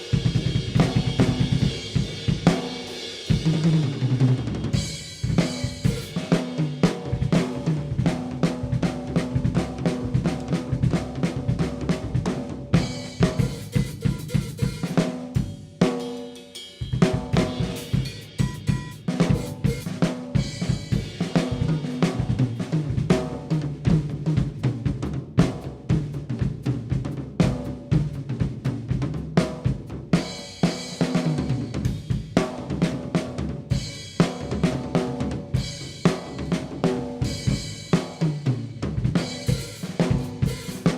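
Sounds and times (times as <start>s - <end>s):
drum kit playing a beat: 0.0s - 40.9s.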